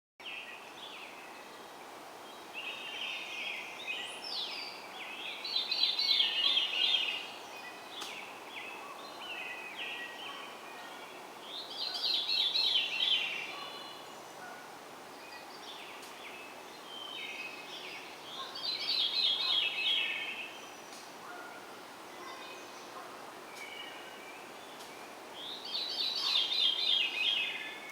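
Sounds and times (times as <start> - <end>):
faint background hiss: 0.2 - 27.9
songbird singing: 0.2 - 27.9.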